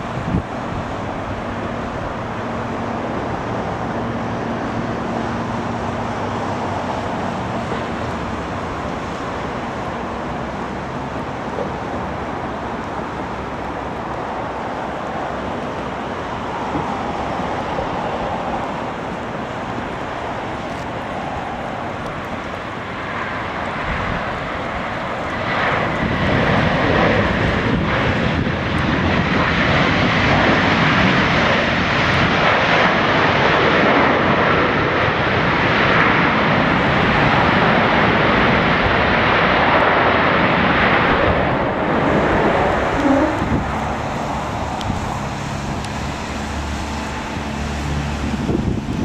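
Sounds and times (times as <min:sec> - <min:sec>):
jet engines during landing: 0:00.0 - 0:49.0.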